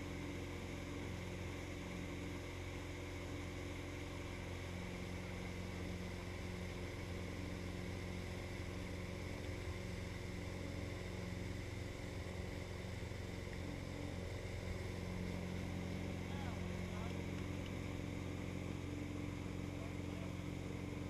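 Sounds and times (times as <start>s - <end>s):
motorboat engine drone: 0.0s - 21.0s.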